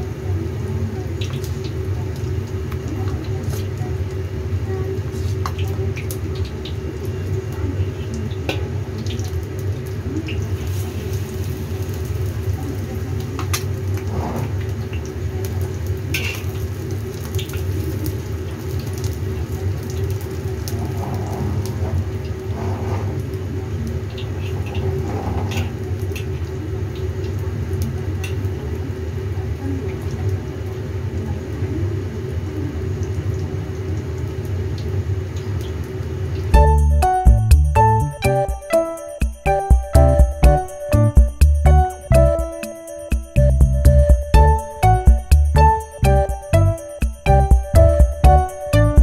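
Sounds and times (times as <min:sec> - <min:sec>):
food deep-frying in oil: 0:00.0 - 0:41.0.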